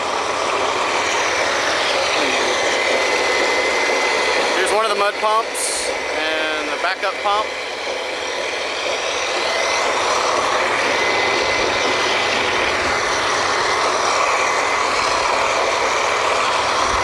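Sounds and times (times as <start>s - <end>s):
drilling rig machinery din: 0.0s - 17.0s.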